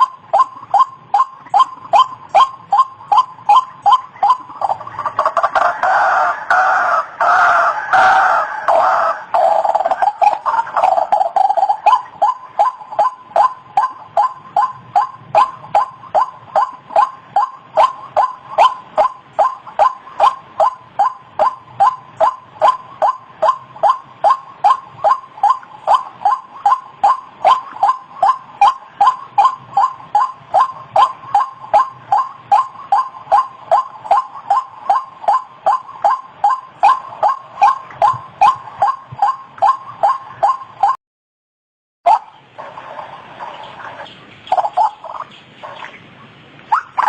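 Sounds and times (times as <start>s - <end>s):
waterhen calling harsh notes: 0.0s - 41.0s, 42.1s - 47.0s.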